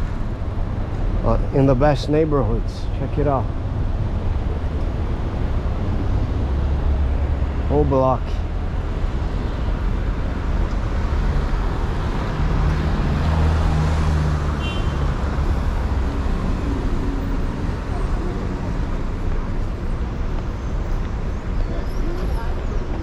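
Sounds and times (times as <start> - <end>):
passing cars hum: 0.0 - 23.0.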